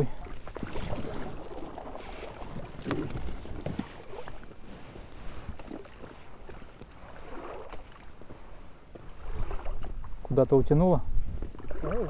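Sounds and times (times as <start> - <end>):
water lapping around boat: 0.0 - 12.0
wind rumble on microphone: 2.0 - 12.0.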